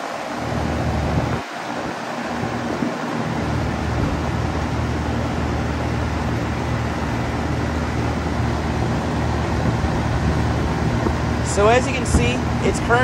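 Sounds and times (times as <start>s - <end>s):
air conditioner unit humming: 0.0s - 13.0s
fan blowing air: 0.0s - 13.0s.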